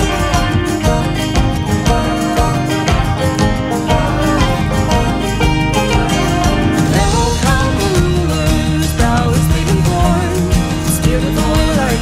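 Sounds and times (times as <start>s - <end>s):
plucked strings over steady beat: 0.0s - 12.0s.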